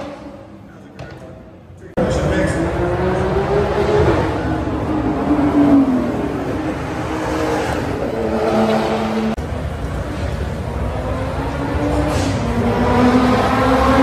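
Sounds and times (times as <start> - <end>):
race car engines running hard: 0.0 - 14.0.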